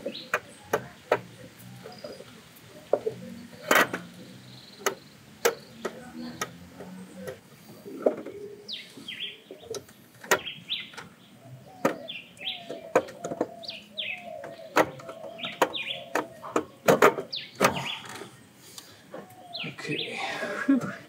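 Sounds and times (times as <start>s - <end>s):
bird chirping: 0.0s - 20.9s.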